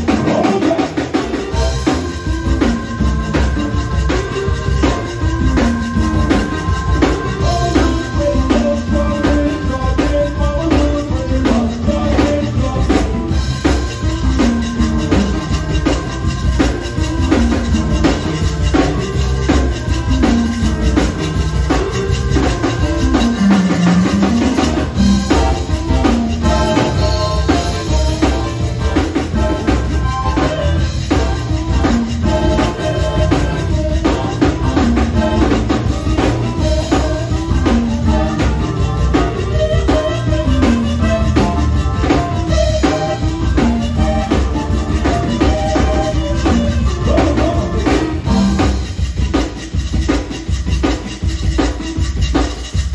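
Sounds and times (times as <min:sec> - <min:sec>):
accordion: 0:00.0 - 0:52.9
drum kit beat: 0:00.0 - 0:52.9
electric bass: 0:00.0 - 0:52.9
keyboard: 0:00.0 - 0:52.9.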